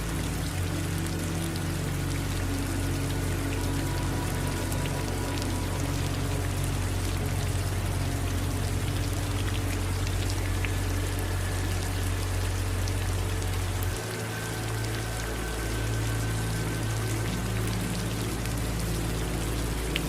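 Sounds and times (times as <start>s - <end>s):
low rumble: 0.0s - 20.0s
steady rain hissing: 0.0s - 20.0s.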